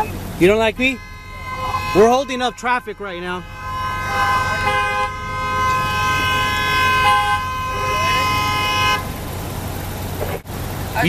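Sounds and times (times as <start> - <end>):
long vehicle horn honk: 0.0 - 9.8.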